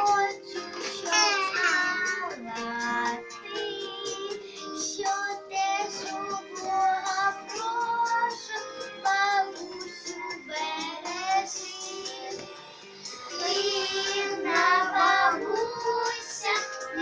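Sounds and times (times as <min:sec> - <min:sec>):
children singing together: 0:00.0 - 0:12.5, 0:13.2 - 0:17.0
instrumental accompaniment: 0:00.0 - 0:17.0.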